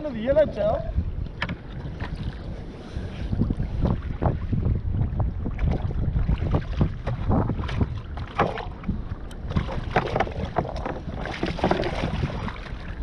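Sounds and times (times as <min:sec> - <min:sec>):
wind rumble on microphone: 0:00.0 - 0:13.0
water slapping against kayak: 0:00.6 - 0:13.0.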